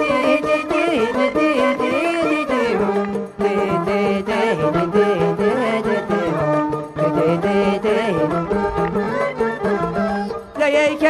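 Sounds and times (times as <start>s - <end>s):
instrumental folk music: 0.0s - 11.0s.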